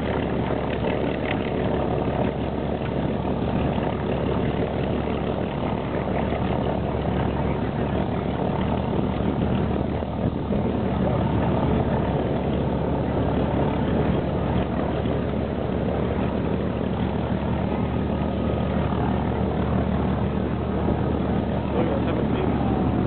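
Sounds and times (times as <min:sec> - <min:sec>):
distant propeller aircraft drone: 0:00.0 - 0:23.0.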